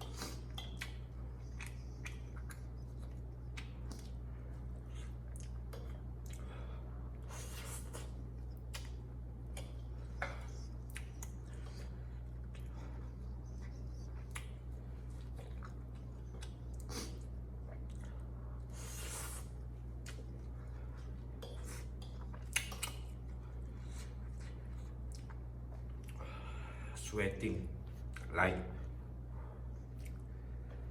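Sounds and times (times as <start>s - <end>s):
person chewing noodles: 0.0s - 26.8s, 29.6s - 30.9s
steady low hum: 0.0s - 30.9s.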